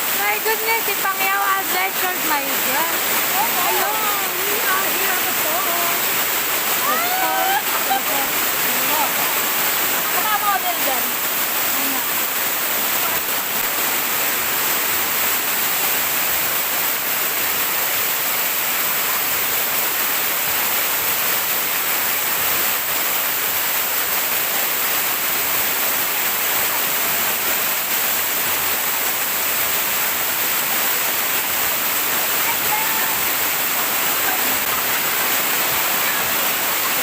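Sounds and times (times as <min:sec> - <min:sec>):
waterfall rushing and splashing: 0:00.0 - 0:37.0.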